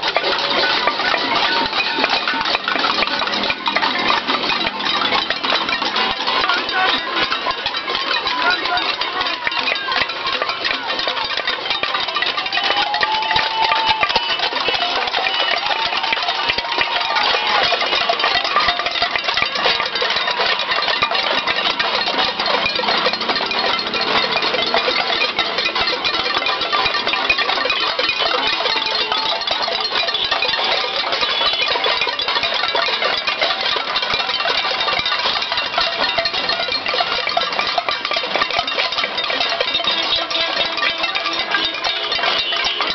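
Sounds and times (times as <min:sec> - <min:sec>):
people banging pots and pans: 0:00.0 - 0:42.9.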